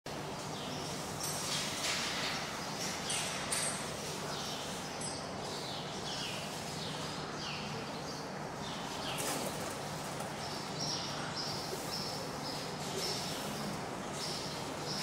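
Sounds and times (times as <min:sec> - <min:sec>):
small birds chirping: 0:02.3 - 0:15.0.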